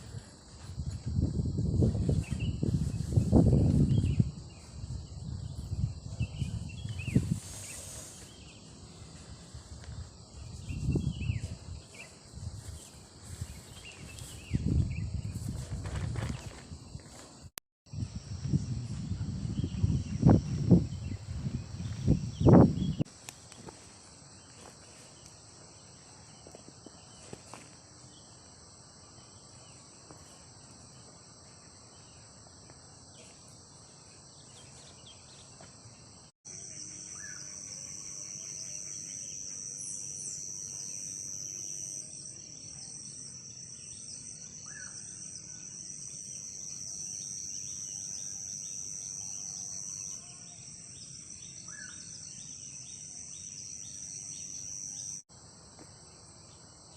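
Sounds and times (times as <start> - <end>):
crickets trilling: 0.0 - 56.9
short insect chirps: 0.0 - 56.9.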